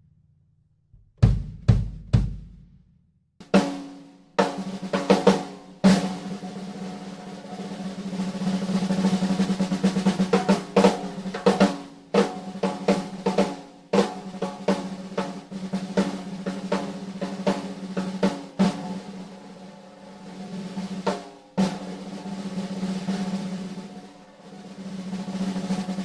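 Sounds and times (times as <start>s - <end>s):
snare roll: 3.4s - 26.0s
low drum strokes: 4.5s - 26.0s.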